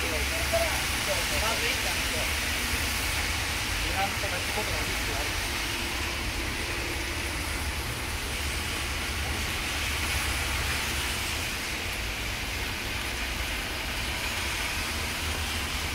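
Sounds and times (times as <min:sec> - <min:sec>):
rain hissing: 0:00.0 - 0:15.9
traffic on wet street: 0:00.0 - 0:15.9.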